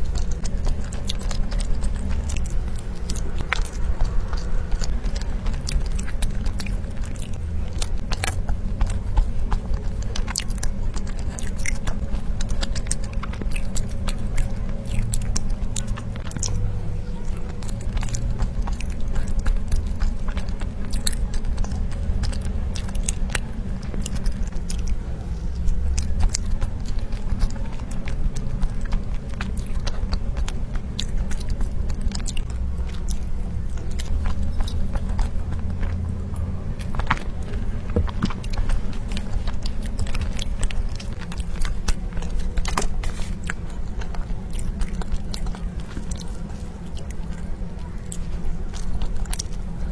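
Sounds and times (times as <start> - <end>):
person chewing with wet mouth clicks: 0.0 - 49.9.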